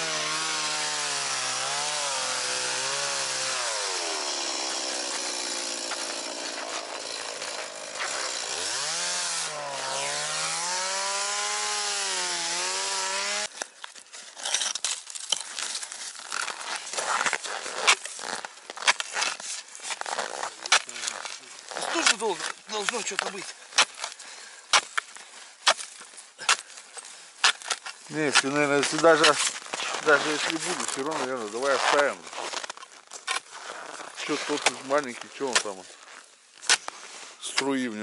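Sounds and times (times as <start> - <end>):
chainsaw cutting ice: 0.0 - 13.7, 14.3 - 25.0, 27.4 - 35.9.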